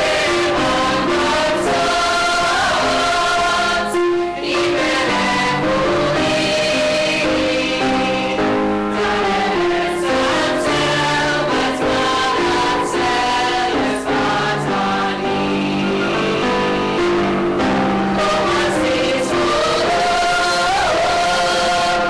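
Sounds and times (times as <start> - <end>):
mixed choir singing: 0.0 - 22.0.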